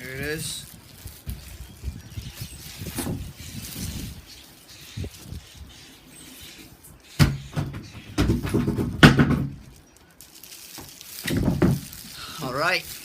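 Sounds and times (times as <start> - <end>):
packaging scraping squeaks: 0.0 - 7.5, 9.6 - 13.0.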